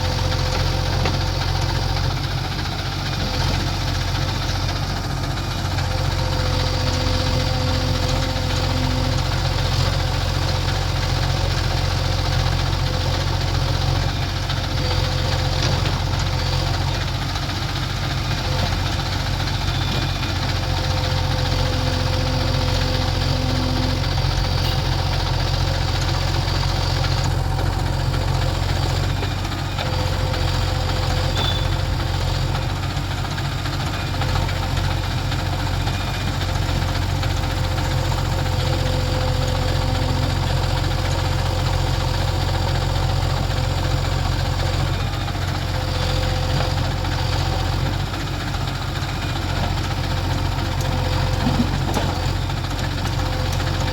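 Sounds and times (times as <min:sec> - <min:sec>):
heavy diesel engines rumbling: 0:00.0 - 0:53.9.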